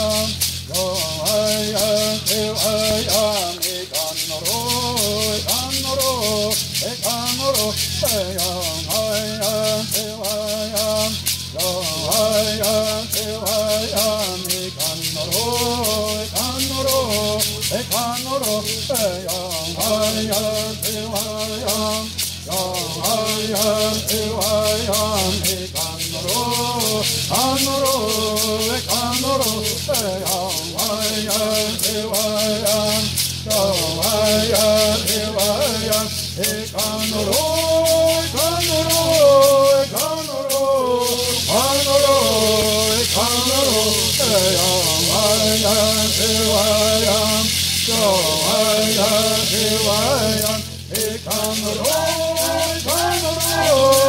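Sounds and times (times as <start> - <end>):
gourd rattles shaking: 0.0 - 54.0
people chanting a melody: 0.0 - 54.0.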